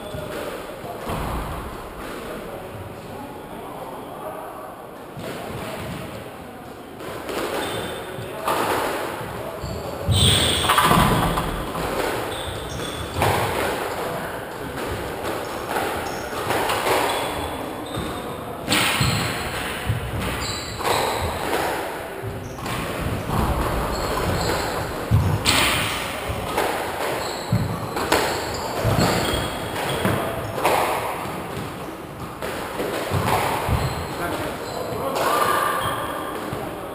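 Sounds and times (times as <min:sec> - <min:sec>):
squash ball impacts echoing: 0:00.0 - 0:03.6, 0:07.0 - 0:36.9.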